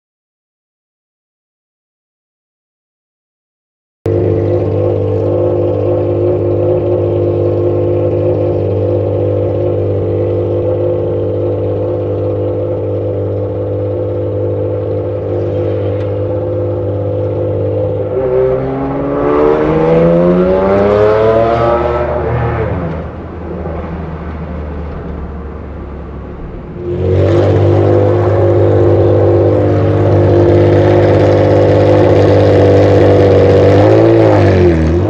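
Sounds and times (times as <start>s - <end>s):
race car engine revving: 4.1s - 35.0s.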